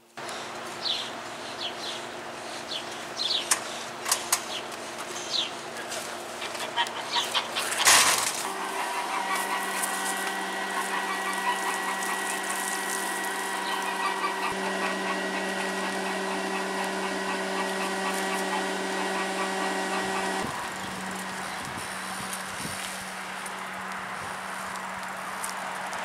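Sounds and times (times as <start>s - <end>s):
electric blower fan humming: 0.0s - 26.0s.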